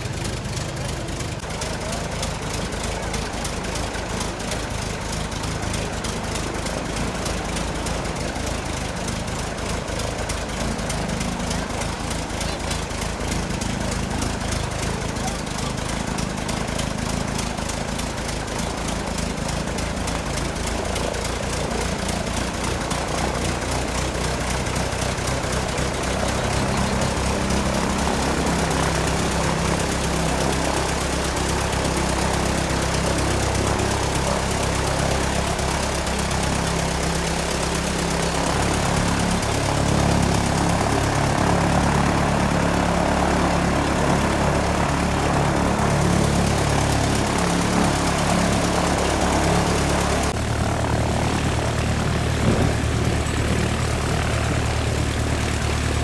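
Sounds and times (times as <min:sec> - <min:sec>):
biplane engine running: 0:00.0 - 0:56.0.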